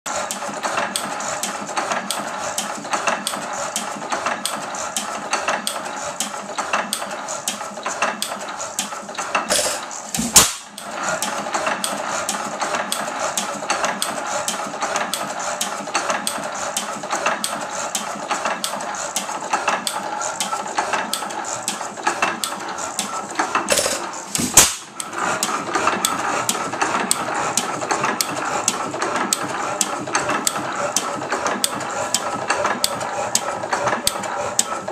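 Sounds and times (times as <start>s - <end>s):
engine mechanical clatter: 0.1s - 34.9s.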